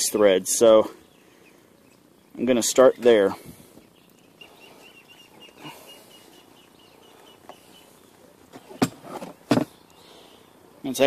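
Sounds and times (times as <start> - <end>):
bird chirping rapidly: 0.0 - 8.9.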